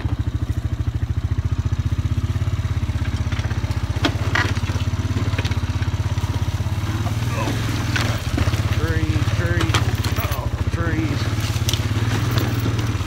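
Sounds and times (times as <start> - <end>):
atv engine puttering: 0.0 - 13.0.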